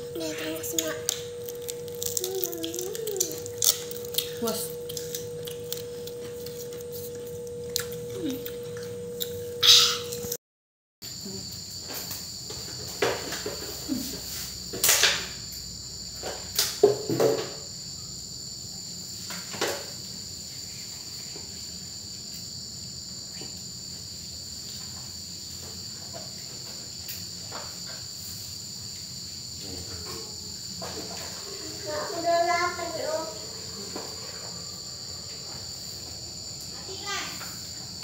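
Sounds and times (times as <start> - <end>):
crickets chirring: 0.0 - 10.4, 11.0 - 38.0.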